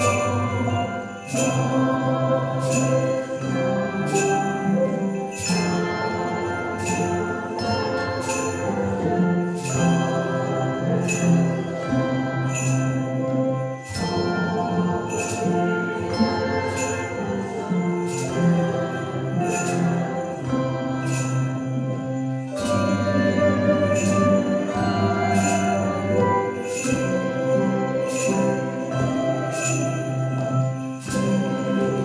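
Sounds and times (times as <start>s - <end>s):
handbell choir playing: 0.0s - 32.0s
sustained low bells: 0.0s - 32.0s.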